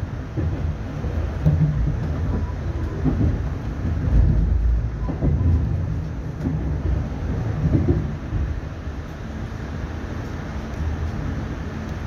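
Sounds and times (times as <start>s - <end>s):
train wheels rolling on rails: 0.0s - 12.0s.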